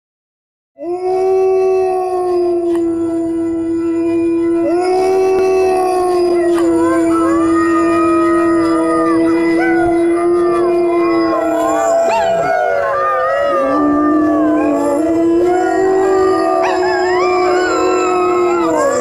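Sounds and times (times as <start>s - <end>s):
dogs howling: 0.8s - 19.0s
higher wavering dog howls: 0.8s - 19.0s.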